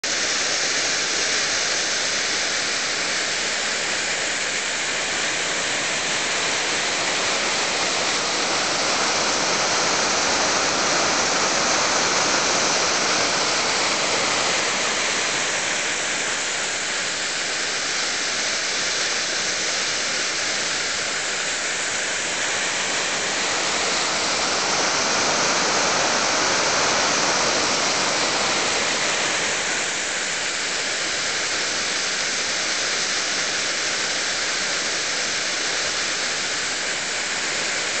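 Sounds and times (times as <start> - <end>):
water rushing over boulders: 0.0 - 38.0.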